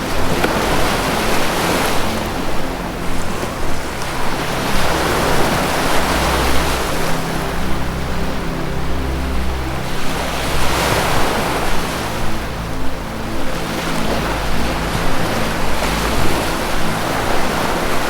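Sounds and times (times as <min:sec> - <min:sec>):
low music drone: 0:00.0 - 0:18.0.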